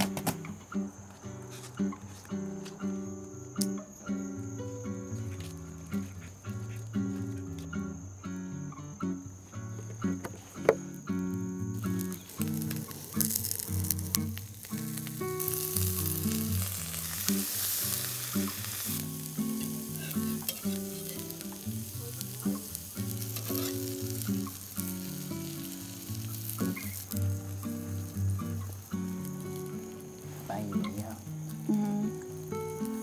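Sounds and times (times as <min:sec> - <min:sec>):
food sizzling on griddle: 0:00.0 - 0:08.9, 0:09.8 - 0:33.0.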